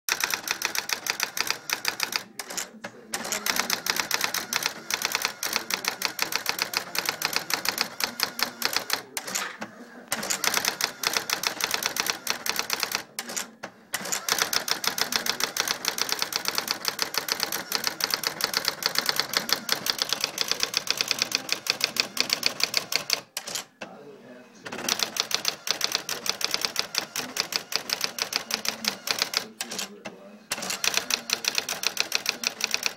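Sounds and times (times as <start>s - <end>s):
electronic typewriter print strikes: 0.1s - 23.7s, 24.7s - 29.9s, 30.5s - 32.9s.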